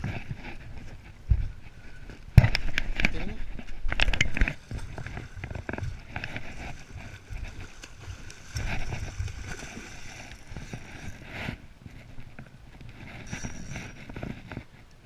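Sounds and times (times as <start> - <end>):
river water: 0.0 - 15.0.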